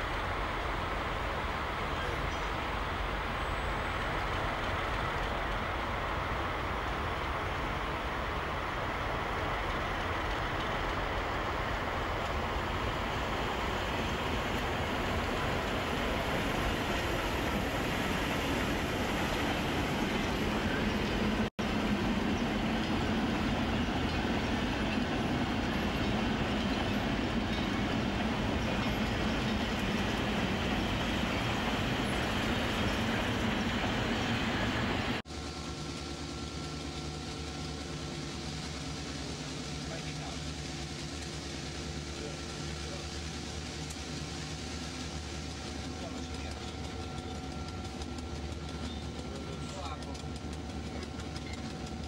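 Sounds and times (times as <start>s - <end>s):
freight train rumbling past: 0.0s - 52.0s
locomotive drone: 0.0s - 52.0s.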